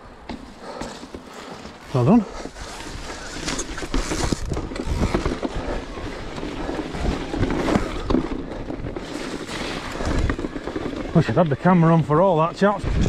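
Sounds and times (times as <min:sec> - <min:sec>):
bike knocking and rattling: 0:00.2 - 0:13.0
tyres crunching over stones: 0:00.2 - 0:13.0.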